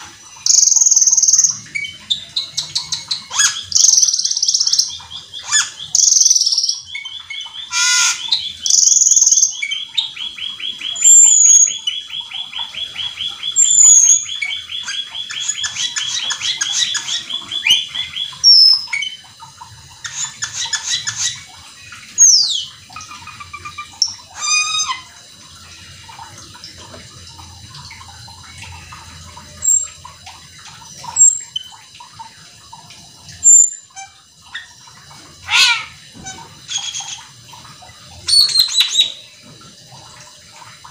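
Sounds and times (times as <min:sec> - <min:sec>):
starling singing buzzy trills: 0:00.0 - 0:40.9.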